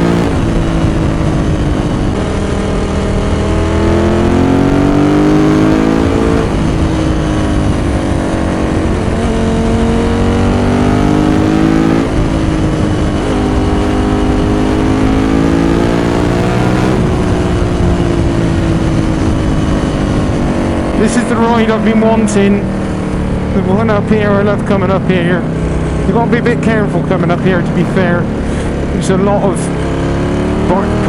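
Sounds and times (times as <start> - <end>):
motorcycle engine pulling hard: 0.0 - 31.0.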